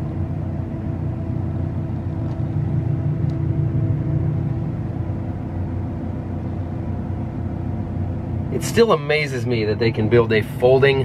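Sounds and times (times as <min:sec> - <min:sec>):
combine harvester cab drone: 0:00.0 - 0:11.0.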